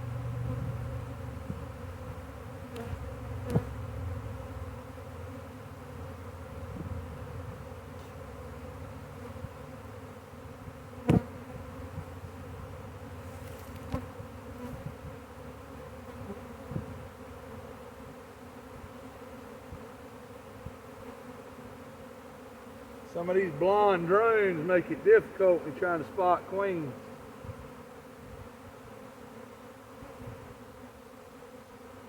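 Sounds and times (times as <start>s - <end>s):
bee swarm buzzing: 0.0s - 32.0s.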